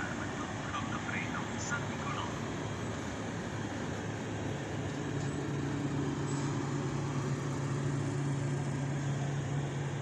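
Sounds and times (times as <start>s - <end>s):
train rumbling along track: 0.0s - 10.0s.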